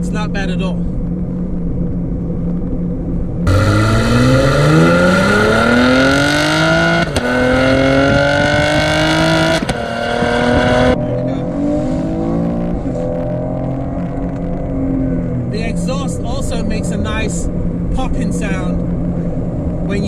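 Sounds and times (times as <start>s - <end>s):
car engine revving at full throttle: 1.0s - 20.0s.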